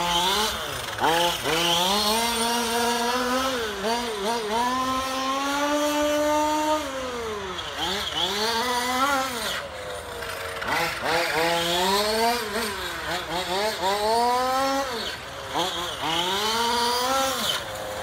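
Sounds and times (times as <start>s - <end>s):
model car motor whining: 0.0s - 18.0s.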